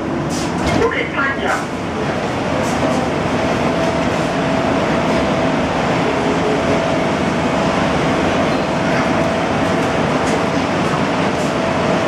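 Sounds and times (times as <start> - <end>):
light-rail car hum and rush: 0.0 - 12.0.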